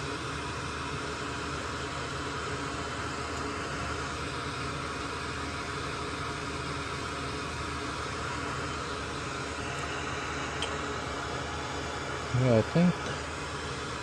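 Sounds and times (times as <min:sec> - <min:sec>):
fan-like hum and hiss: 0:00.0 - 0:14.0.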